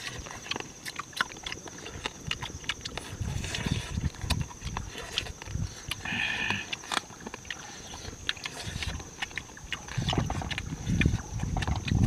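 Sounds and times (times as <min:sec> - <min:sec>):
night insects droning: 0:00.0 - 0:12.0
wet chewing and lip smacks: 0:00.0 - 0:12.0.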